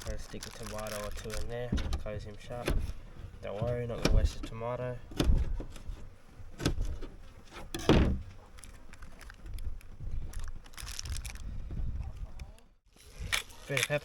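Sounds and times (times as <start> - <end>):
light clicks and rustling: 0.0 - 12.7.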